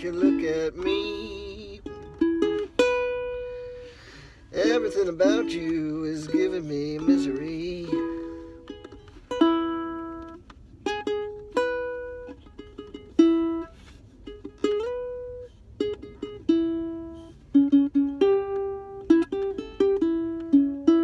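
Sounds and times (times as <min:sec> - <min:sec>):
plucked string instrument: 0:00.0 - 0:21.0.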